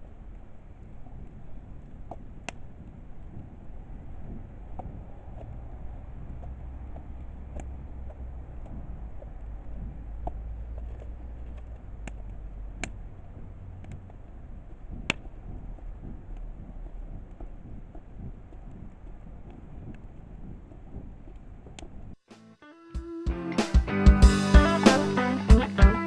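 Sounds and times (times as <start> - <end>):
fire low rumble: 0.0 - 22.2.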